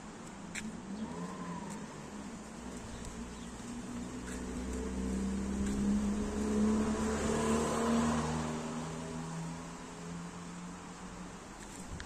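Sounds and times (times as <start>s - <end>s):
vehicle engine passing by: 0.9s - 10.7s.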